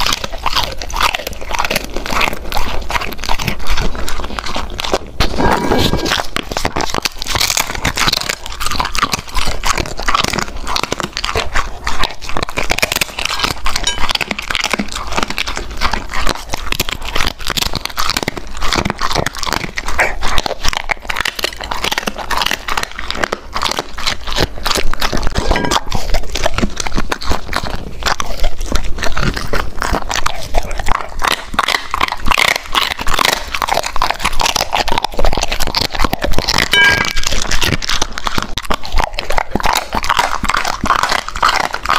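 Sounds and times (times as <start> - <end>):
dog crunching food: 0.0 - 41.9.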